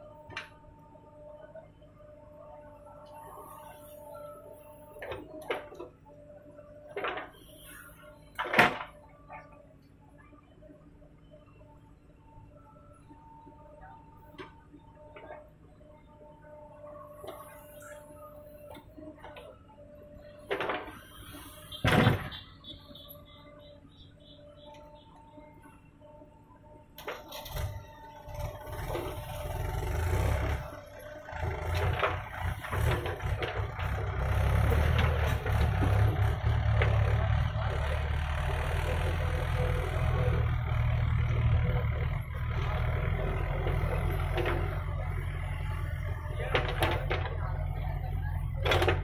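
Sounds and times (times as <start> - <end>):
diesel engine humming: 0.0 - 49.0.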